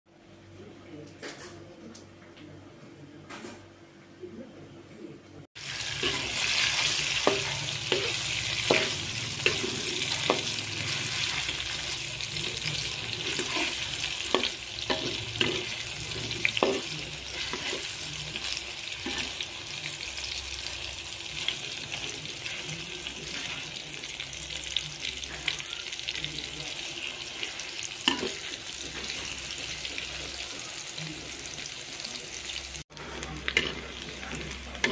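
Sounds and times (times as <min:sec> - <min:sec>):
deep-frying sizzle with pops: 0:05.6 - 0:34.9.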